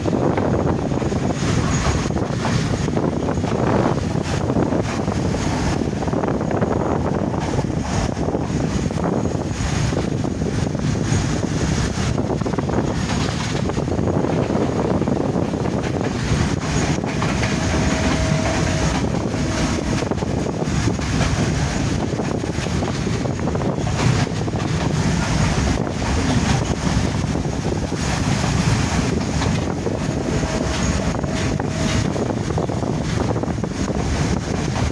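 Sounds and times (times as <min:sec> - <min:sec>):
train wheels rumbling: 0:00.0 - 0:34.9
wind buffeting microphone: 0:00.0 - 0:34.9.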